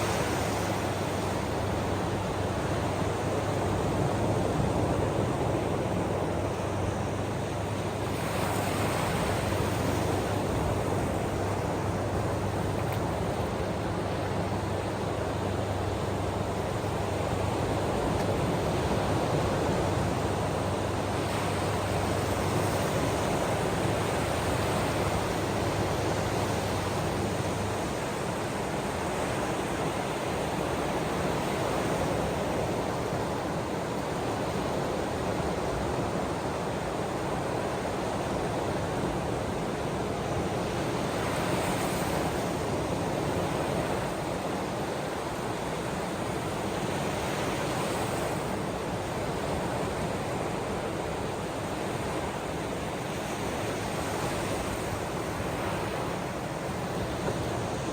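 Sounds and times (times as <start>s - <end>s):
ocean waves washing: 0.0s - 57.9s.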